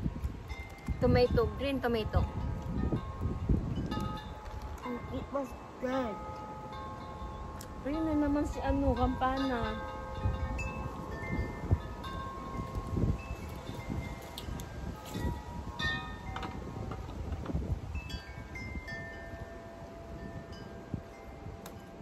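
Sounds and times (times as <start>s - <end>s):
wind chimes ringing: 0.0s - 22.0s.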